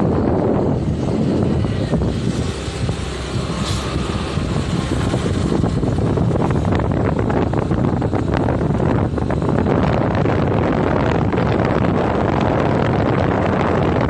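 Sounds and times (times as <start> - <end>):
scooter engine: 0.0 - 11.7
road noise: 0.0 - 14.0
wind buffeting microphone: 0.0 - 14.0.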